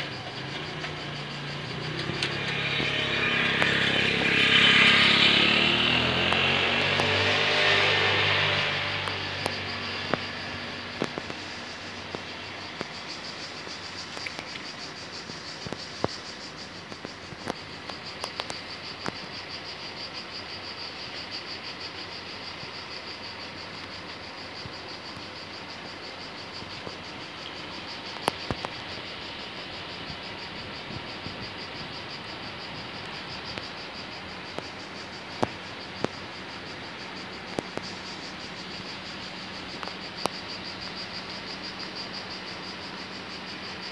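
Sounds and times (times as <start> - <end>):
cicadas chirring: 0.0 - 43.9.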